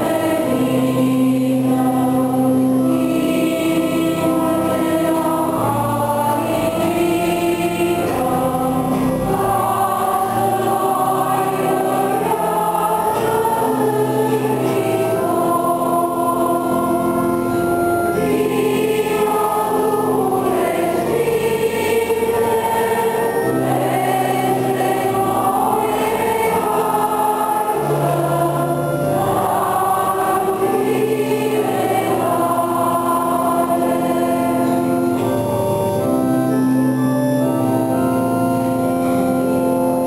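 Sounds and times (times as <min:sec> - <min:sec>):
choir singing a hymn: 0:00.0 - 0:40.0
organ sustained chords: 0:00.0 - 0:40.0.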